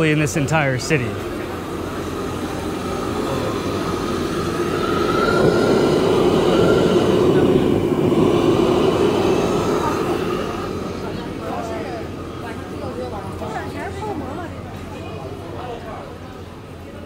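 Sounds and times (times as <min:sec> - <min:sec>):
gas wok burner roaring: 0:00.0 - 0:14.6.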